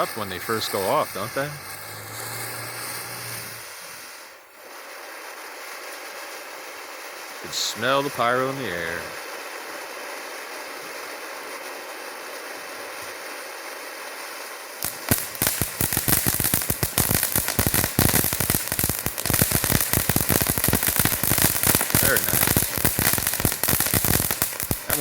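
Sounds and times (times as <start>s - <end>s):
firework crackling pops: 0.0s - 25.0s
firework fountain hissing: 0.0s - 25.0s.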